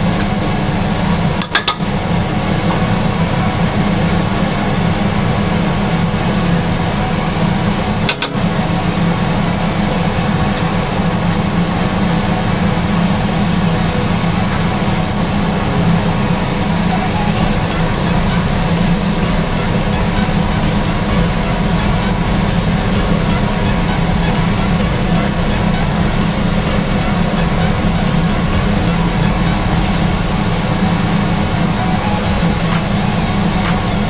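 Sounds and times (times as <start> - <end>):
gas burner roar: 0.0 - 34.0.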